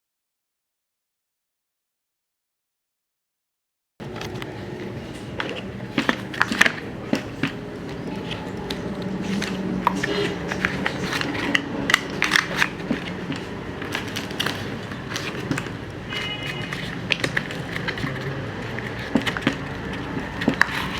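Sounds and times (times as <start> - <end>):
steady background noise: 4.0 - 20.9.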